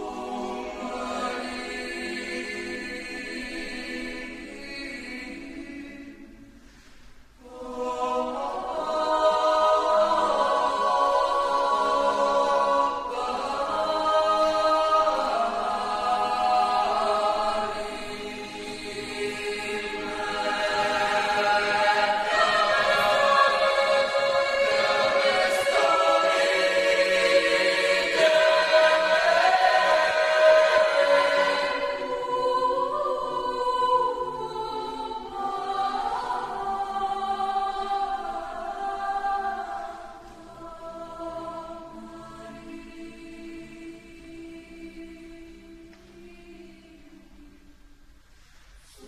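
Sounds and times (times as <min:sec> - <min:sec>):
mixed choir singing a cappella: 0:00.0 - 0:06.8, 0:07.4 - 0:49.0.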